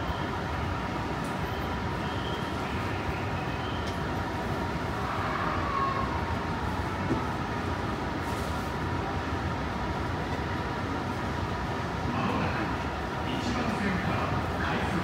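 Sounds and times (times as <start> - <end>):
train interior hum: 0.0 - 15.0.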